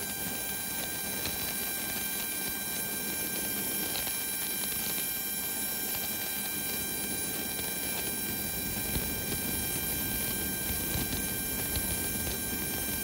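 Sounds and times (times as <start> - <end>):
auxiliary power unit running: 0.0 - 13.0.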